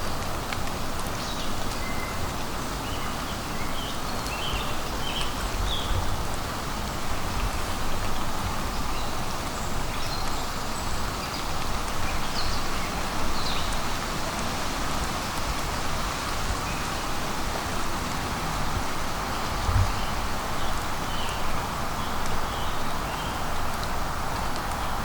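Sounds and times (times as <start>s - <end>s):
rain falling on foliage: 0.0s - 25.0s.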